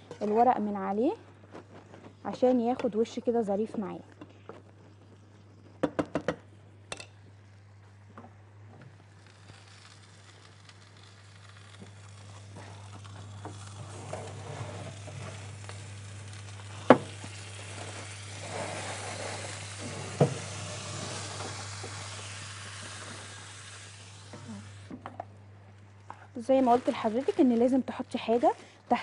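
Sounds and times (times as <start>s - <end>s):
casserole sizzling and bubbling: 0.0s - 29.0s.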